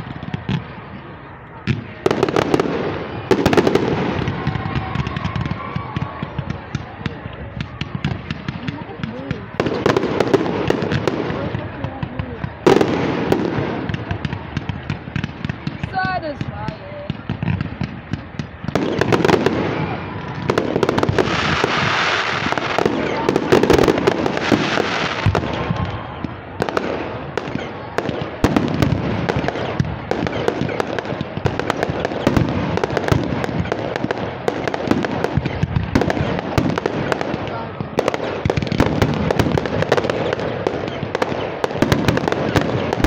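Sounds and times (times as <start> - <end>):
fireworks crackling: 0.0 - 43.0
fireworks popping and banging: 0.0 - 43.0.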